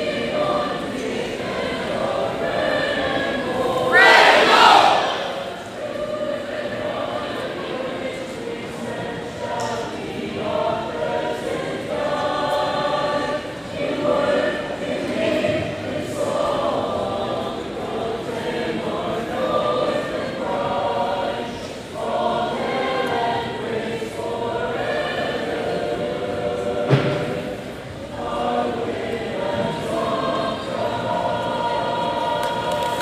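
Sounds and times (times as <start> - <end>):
choir singing long notes: 0.0 - 33.0.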